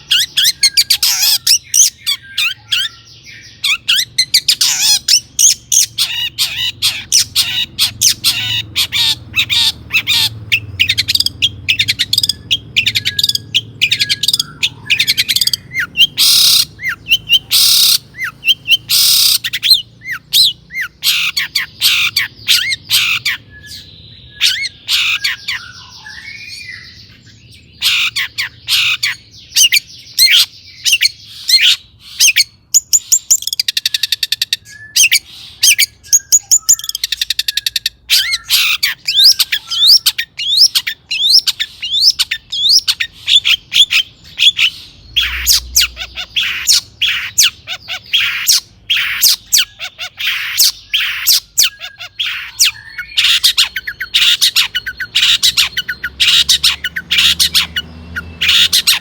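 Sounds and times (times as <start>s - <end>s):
shrike singing harsh chatter: 0.0s - 59.0s.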